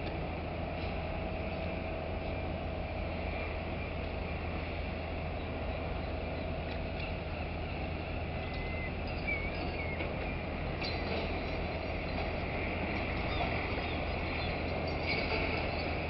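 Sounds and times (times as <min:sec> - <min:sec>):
crane mechanical drone: 0:00.0 - 0:16.0.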